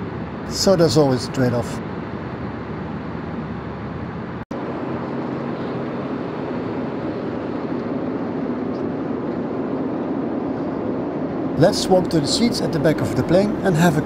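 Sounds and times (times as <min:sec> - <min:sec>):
airplane cabin airflow and engine hum: 0:00.0 - 0:14.0.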